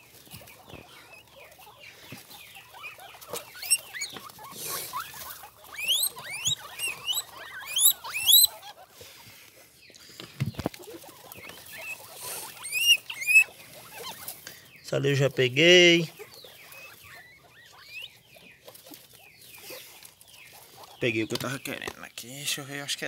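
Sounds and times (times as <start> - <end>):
cavies squeaking: 0.0 - 9.0, 10.6 - 21.9.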